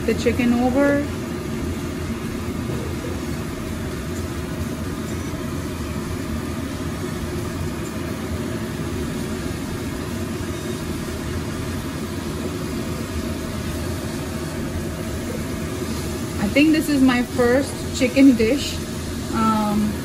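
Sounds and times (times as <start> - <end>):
chicken frying in oil: 0.0 - 20.0.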